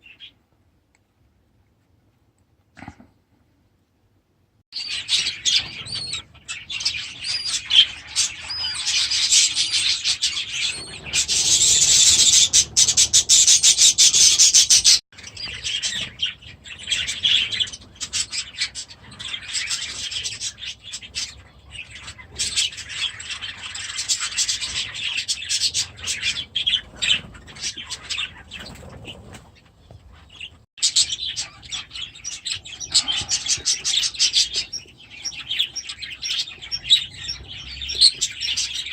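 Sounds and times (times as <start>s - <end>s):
budgerigars chattering and chirping: 4.8s - 29.4s, 30.3s - 38.9s.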